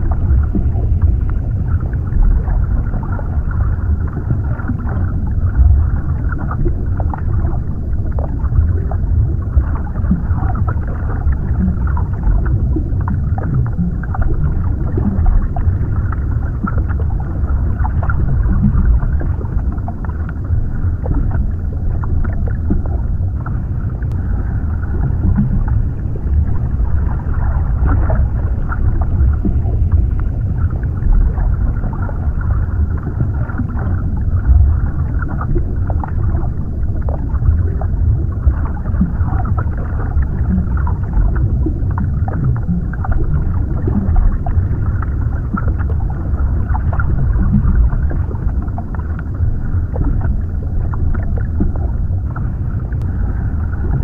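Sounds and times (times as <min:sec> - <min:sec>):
low underwater rumble: 0:00.0 - 0:54.0.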